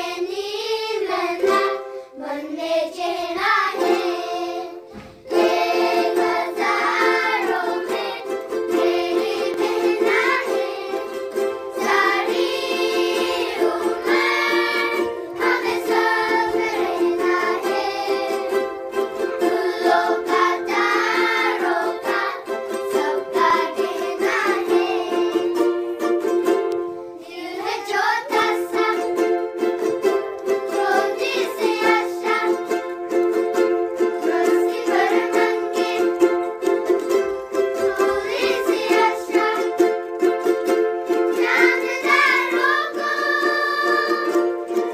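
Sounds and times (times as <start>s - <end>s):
children singing: 0.0s - 26.3s, 27.2s - 44.9s
ukuleles strumming: 0.0s - 44.9s.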